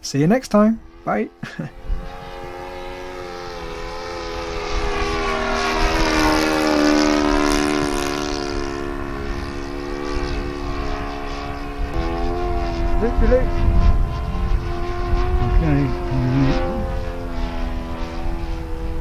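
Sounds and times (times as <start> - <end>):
model airplane engine buzzing: 0.8 - 19.0.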